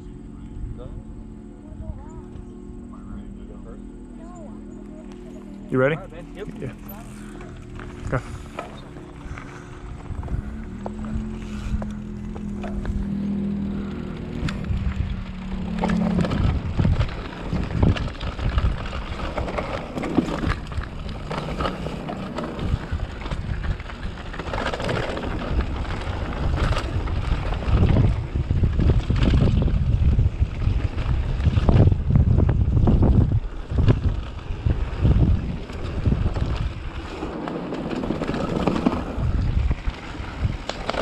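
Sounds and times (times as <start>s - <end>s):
bike rattling over rough trail: 0.0s - 41.0s
low hum: 0.0s - 41.0s
wind buffeting microphone: 0.0s - 41.0s.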